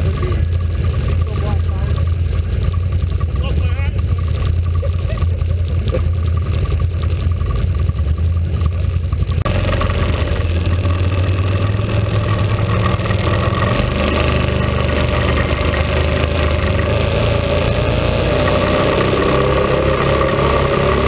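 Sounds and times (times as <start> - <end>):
atv engine driving over snow: 0.0 - 21.0
atv engine idling: 0.0 - 21.0.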